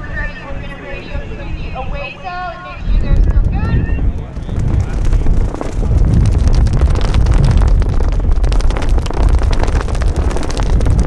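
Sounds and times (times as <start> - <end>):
crackles: 0.0 - 11.0
wind buffeting microphone: 0.0 - 11.0.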